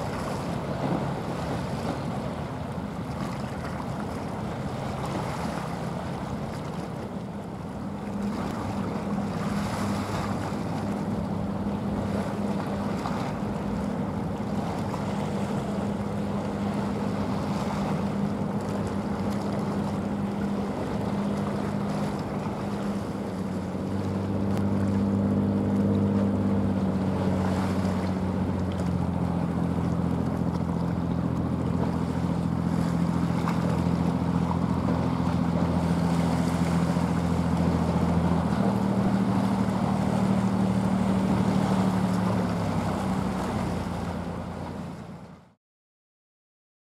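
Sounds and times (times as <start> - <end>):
ship engine drone: 0.0 - 45.6
waves washing: 0.0 - 45.6.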